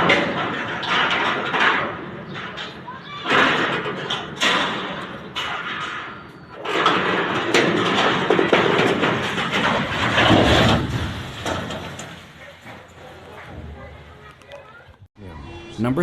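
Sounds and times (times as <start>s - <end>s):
heavy rattling and banging: 0.0s - 14.4s.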